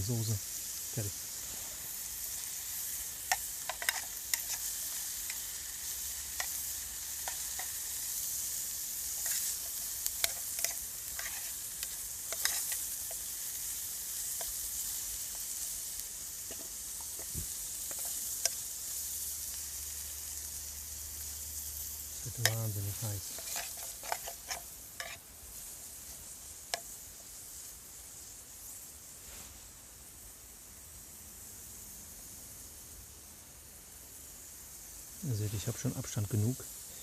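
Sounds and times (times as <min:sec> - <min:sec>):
bacon sizzling in hot oil: 0:00.0 - 0:37.0.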